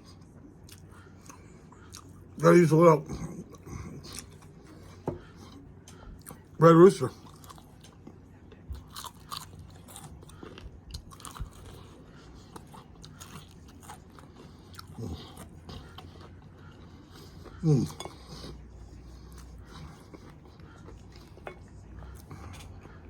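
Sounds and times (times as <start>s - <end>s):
crunchy chewing of fried chicken: 0.0s - 23.0s.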